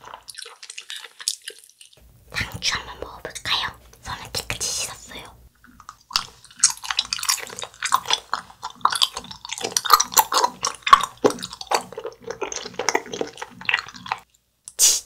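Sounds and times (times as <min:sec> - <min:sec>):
mouth chewing gummy candy: 0:00.0 - 0:15.0.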